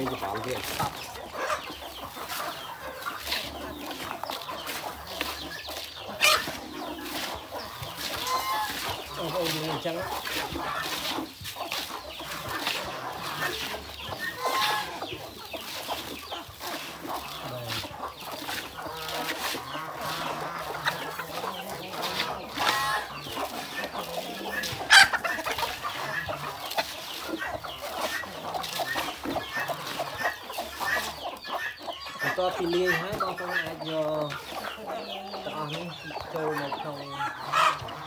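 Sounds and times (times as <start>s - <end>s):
chickens clucking: 0.0s - 38.0s
hands mixing feed in metal basin: 0.0s - 38.0s.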